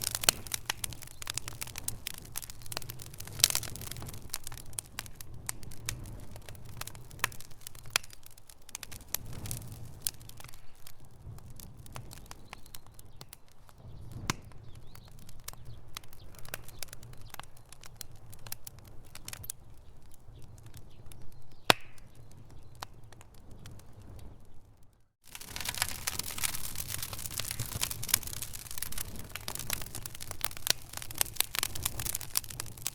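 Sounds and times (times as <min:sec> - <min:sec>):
campfire crackling and popping: 0:00.0 - 0:32.9
low rumble of fire: 0:00.0 - 0:32.9.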